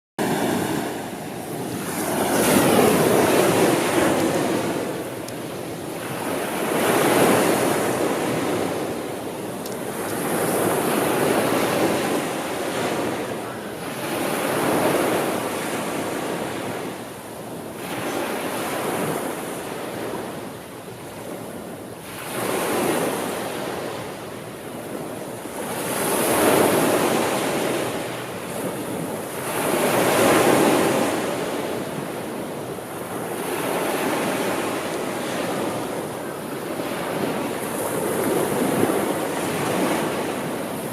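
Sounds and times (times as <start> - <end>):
sea waves rolling in: 0.2 - 40.9.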